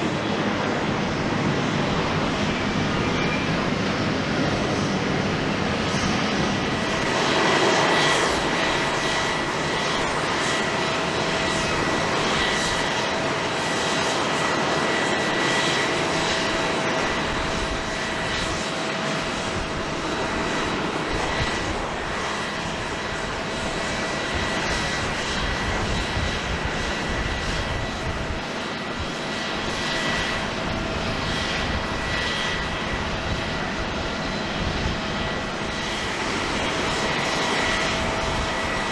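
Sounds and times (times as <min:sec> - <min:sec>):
jet engine roar and whine: 0:00.0 - 0:38.9.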